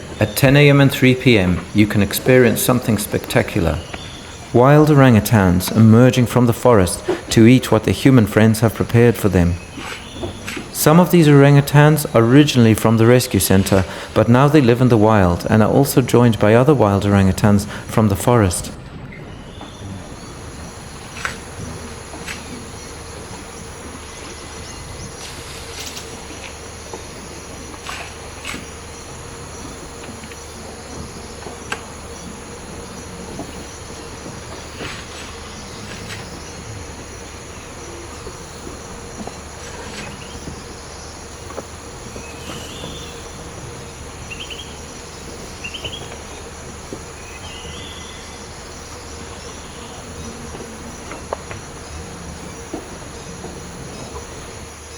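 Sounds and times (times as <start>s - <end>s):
insect chorus drone: 0.0s - 54.9s.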